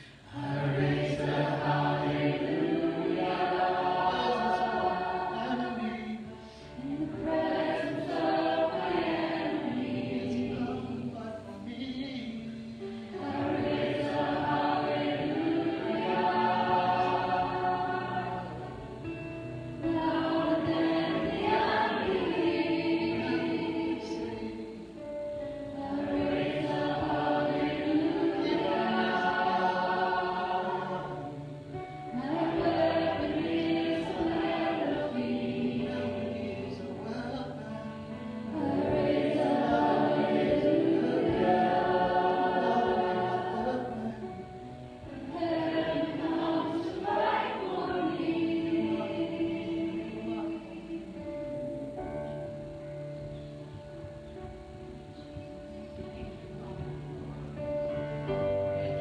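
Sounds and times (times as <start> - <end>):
group singing worship song: 0.0 - 52.8.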